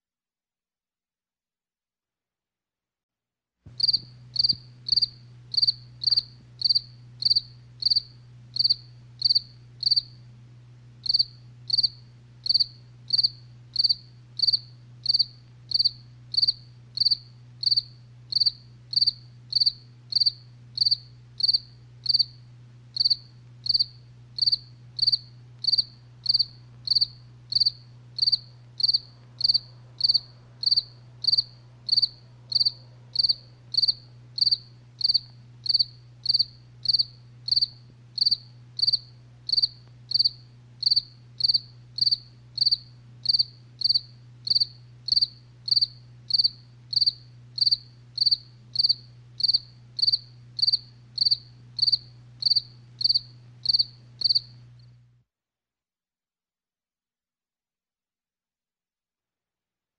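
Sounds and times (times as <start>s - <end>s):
low steady hum: 3.7s - 55.2s
cricket chirping: 3.8s - 10.2s, 11.0s - 22.4s, 23.0s - 54.6s.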